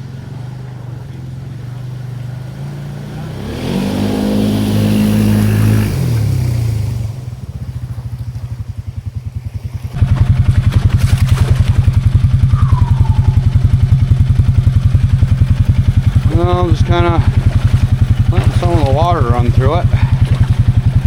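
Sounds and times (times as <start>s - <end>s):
atv engine revving and idling: 0.0s - 21.0s.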